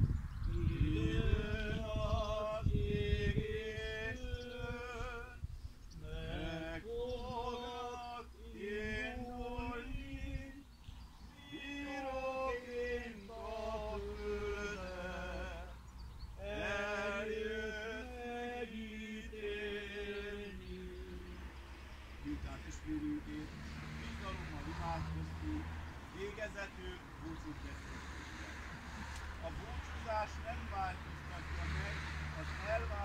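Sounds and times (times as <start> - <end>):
person singing unaccompanied: 0.5 - 21.5, 22.2 - 27.6.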